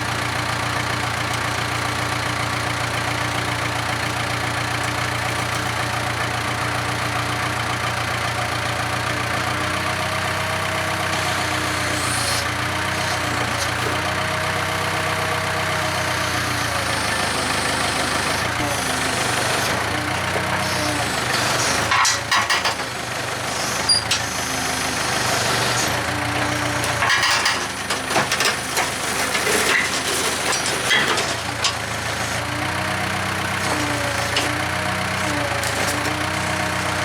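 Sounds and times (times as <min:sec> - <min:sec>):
backhoe engine running: 0:00.0 - 0:37.0.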